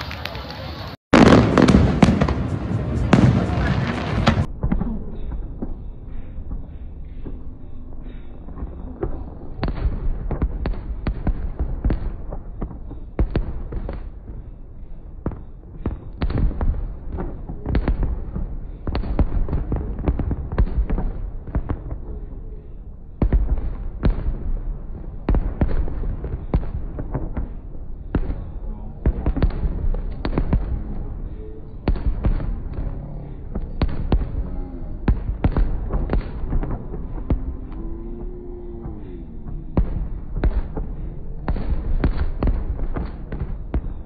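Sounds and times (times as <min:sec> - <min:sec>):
fireworks bangs and crackles: 0:00.0 - 0:44.0
low rumble: 0:00.9 - 0:44.0.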